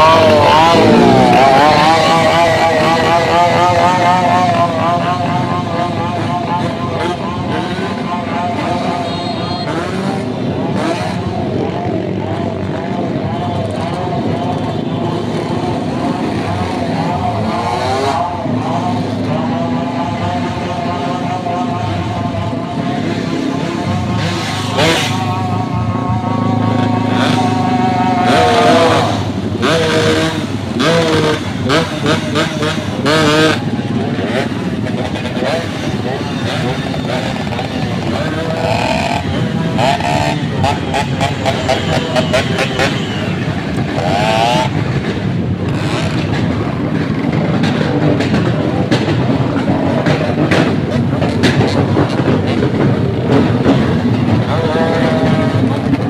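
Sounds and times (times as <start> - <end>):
engine revving through loud exhaust: 0.0 - 56.0.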